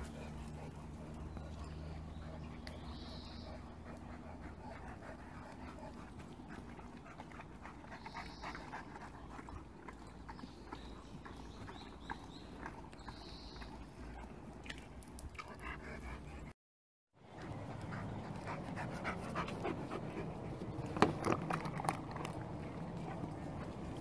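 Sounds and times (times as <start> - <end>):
dogs panting: 0.0 - 14.7, 15.3 - 16.6, 17.2 - 24.0.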